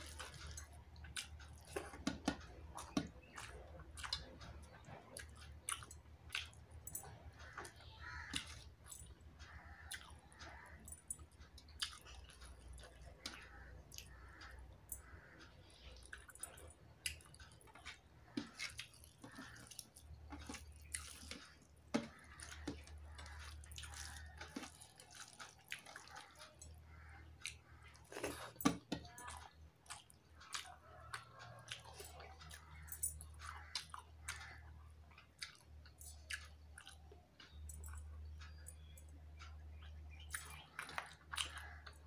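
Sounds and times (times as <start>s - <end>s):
person chewing with wet mouth clicks: 0.0s - 42.0s.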